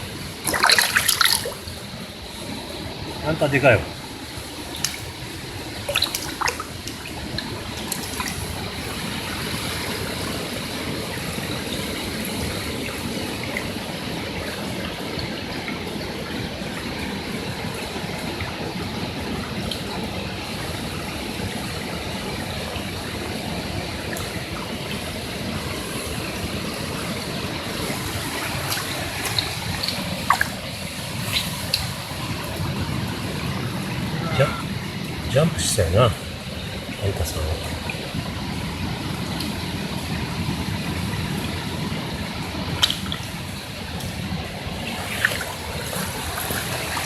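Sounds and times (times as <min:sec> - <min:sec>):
waterfall pouring into pool: 0:00.0 - 0:47.0.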